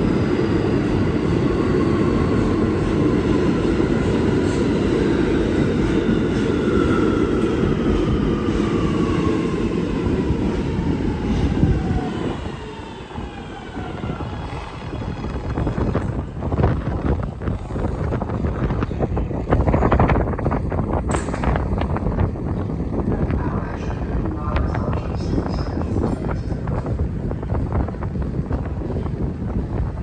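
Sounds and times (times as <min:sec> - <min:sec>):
subway train rumble: 0:00.0 - 0:30.0.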